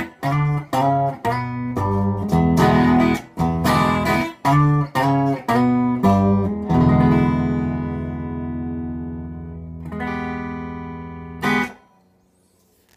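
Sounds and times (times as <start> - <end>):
guitar strummed chords: 0.0 - 12.0.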